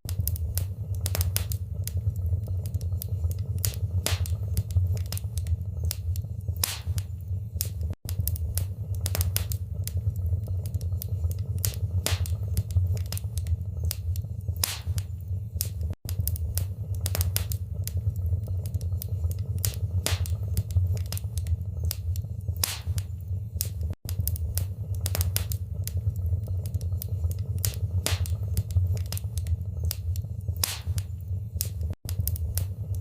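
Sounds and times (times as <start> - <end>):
low rumble of flames: 0.0 - 33.0
wood fire crackling: 0.0 - 33.0.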